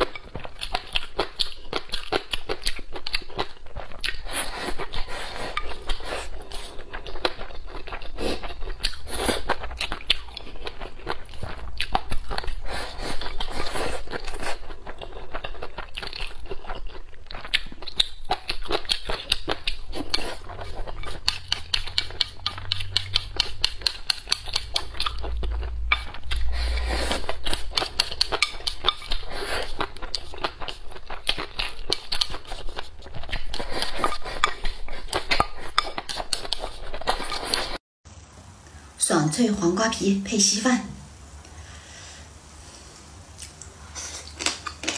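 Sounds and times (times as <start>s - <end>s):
wet chewing and slurping: 0.0s - 37.8s, 43.4s - 44.9s.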